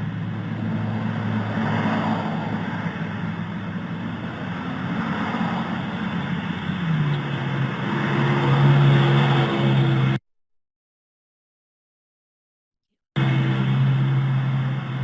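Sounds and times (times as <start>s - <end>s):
car engine accelerating: 0.0s - 10.2s, 13.2s - 15.0s.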